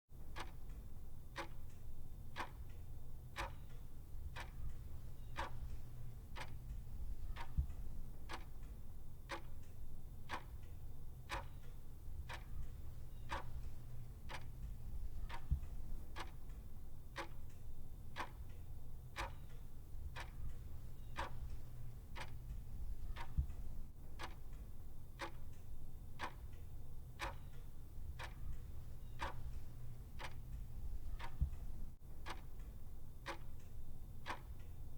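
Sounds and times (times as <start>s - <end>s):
clock ticking: 0.2s - 34.9s
low steady hum: 0.2s - 34.9s.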